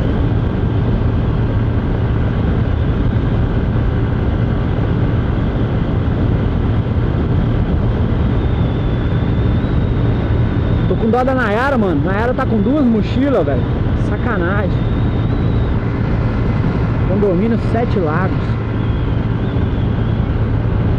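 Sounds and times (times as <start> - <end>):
motorcycle engine running: 0.0 - 20.9
wind rushing on microphone: 0.0 - 20.9.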